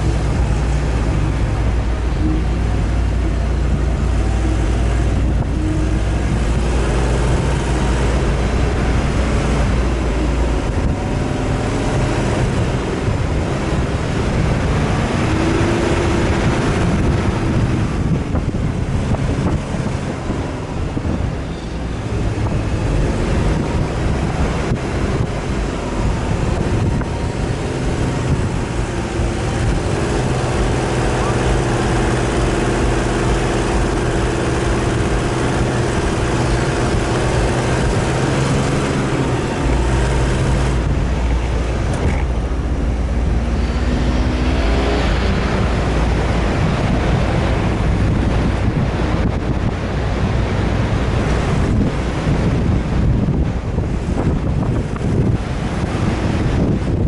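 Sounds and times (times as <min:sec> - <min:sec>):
off-road vehicle engine revving: 0:00.0 - 0:57.0
wind rush: 0:00.0 - 0:57.0.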